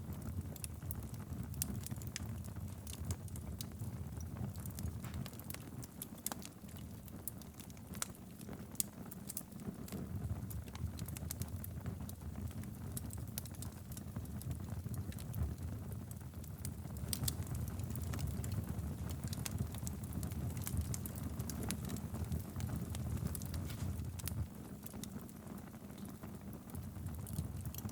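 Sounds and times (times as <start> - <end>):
fire rumbling: 0.0 - 27.9
logs crackling and popping: 0.0 - 27.9.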